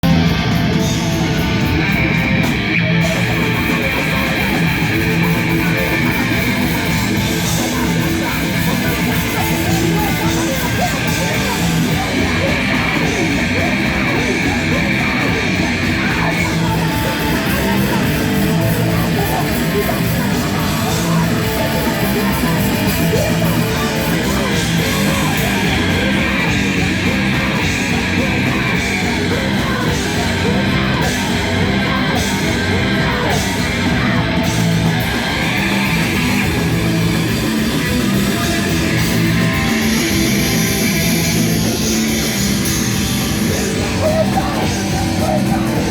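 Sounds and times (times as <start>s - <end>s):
electric guitar: 0.0s - 45.9s
live rock band playing: 0.0s - 45.9s.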